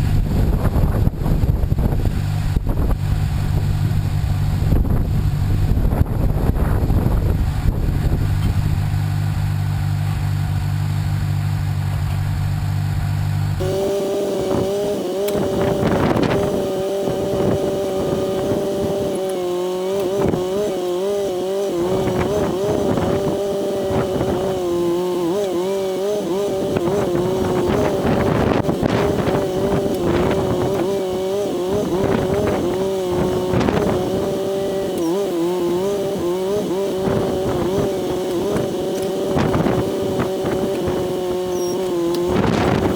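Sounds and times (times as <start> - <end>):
backhoe engine running: 0.0 - 42.9.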